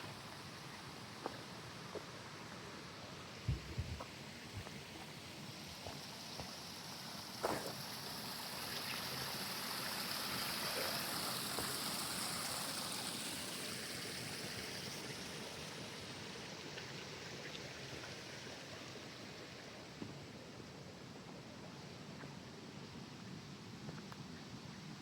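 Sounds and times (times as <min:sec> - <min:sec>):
stream trickling: 0:00.0 - 0:22.8.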